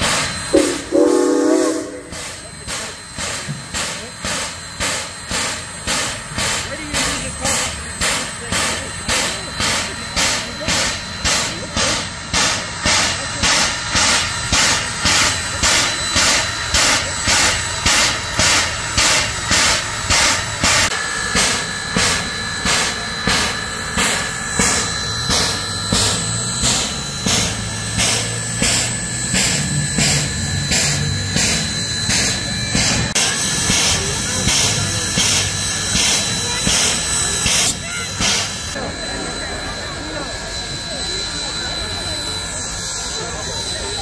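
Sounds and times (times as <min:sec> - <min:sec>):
steam locomotive rumble: 0:00.0 - 0:44.0.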